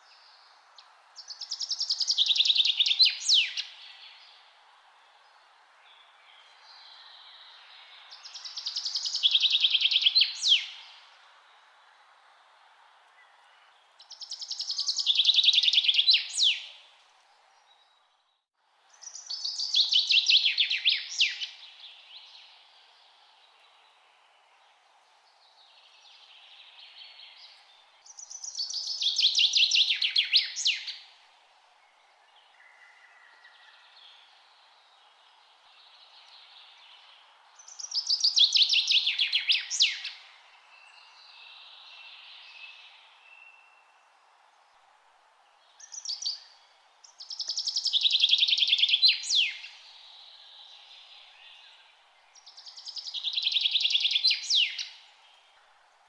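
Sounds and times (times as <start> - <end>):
songbird singing: 0.0 - 56.0
steady background hiss: 0.0 - 56.0.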